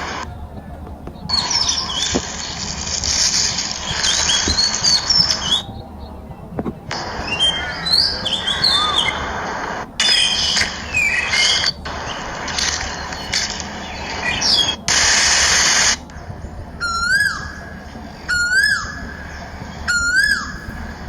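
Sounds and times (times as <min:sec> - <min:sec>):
birds chirping and whistling: 0:00.0 - 0:21.0
steady hiss: 0:00.0 - 0:21.0.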